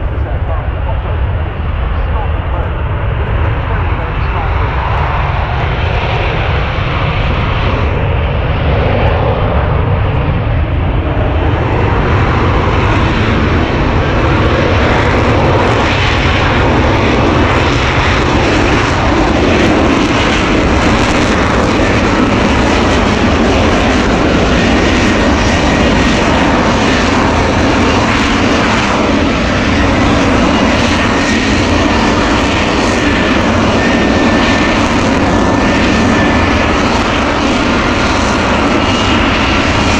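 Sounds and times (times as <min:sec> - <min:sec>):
aircraft engine noise: 0:00.0 - 0:39.9.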